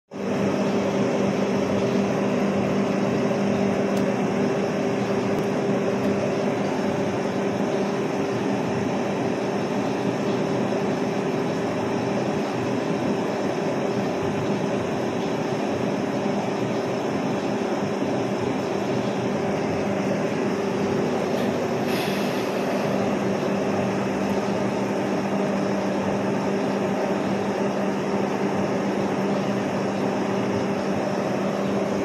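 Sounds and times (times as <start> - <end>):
constant low hum: 0.1 - 32.0.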